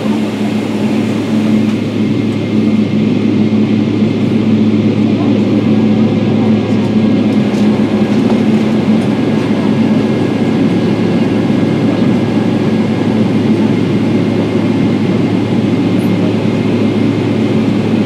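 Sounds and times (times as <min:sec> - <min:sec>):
jet engine rumble from cabin: 0:00.0 - 0:18.0.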